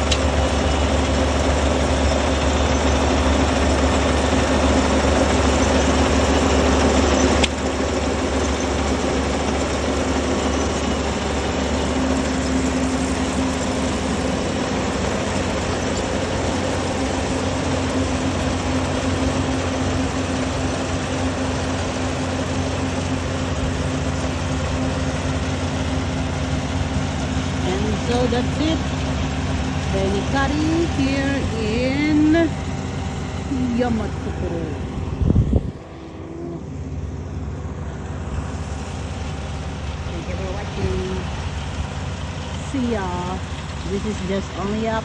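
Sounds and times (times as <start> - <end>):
harvester engine running: 0.0 - 45.0.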